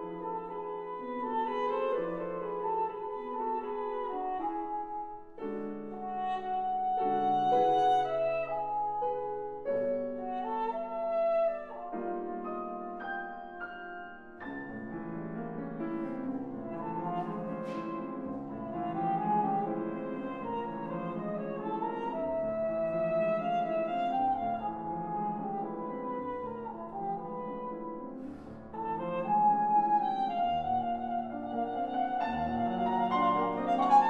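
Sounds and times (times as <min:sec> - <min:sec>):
trumpet playing classical melody: 0:00.0 - 0:13.6, 0:15.3 - 0:34.0
grand piano: 0:00.0 - 0:34.0.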